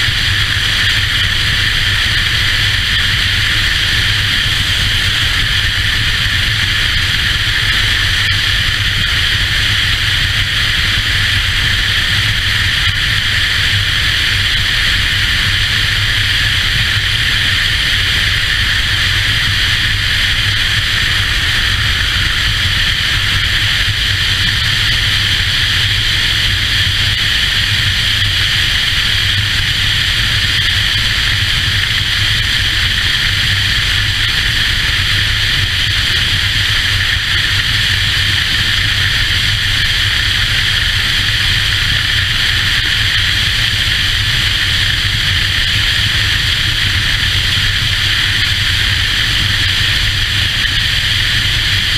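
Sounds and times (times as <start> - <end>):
motorcycle engine drone: 0.0 - 51.9
wind rush over microphone: 0.0 - 51.9.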